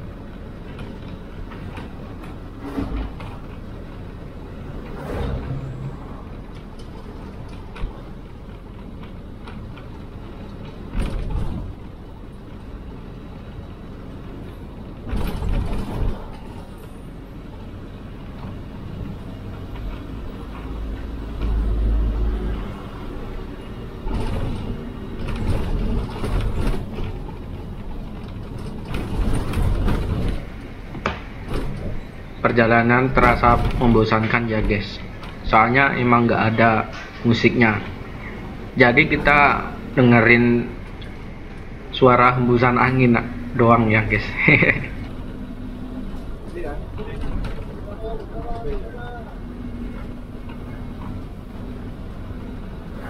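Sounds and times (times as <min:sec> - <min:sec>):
bus body rattling and creaking: 0:00.0 - 0:53.0
bus engine and road rumble: 0:00.0 - 0:53.0
bus jolts: 0:00.0 - 0:53.0
wind through open windows: 0:00.0 - 0:53.0.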